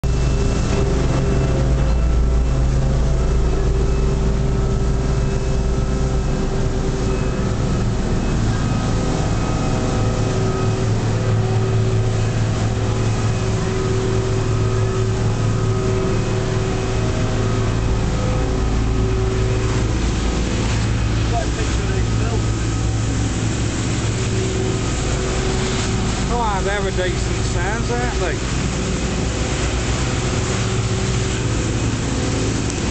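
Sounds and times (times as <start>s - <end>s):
boat engine humming: 0.0s - 32.9s.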